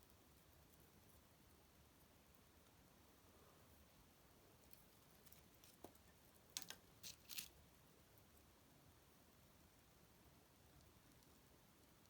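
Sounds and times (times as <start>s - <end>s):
faint fireplace hiss: 0.0s - 12.0s.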